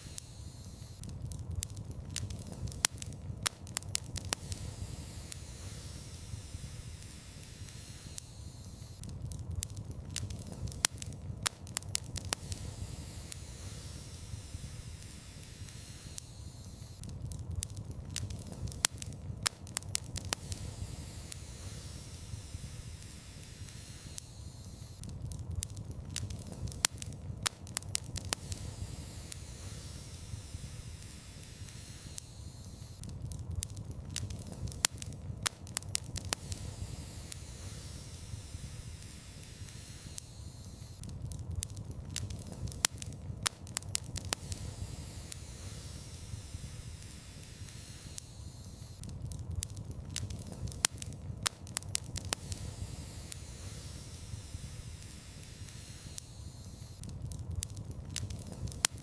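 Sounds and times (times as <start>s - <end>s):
fire popping and snapping: 0.0s - 59.0s
low rumble of flames: 0.0s - 59.0s.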